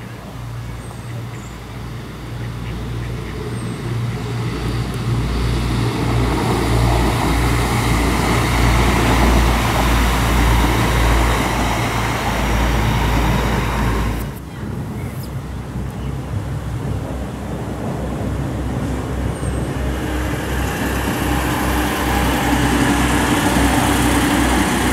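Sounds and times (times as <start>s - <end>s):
diesel train passing by: 0.0s - 24.9s.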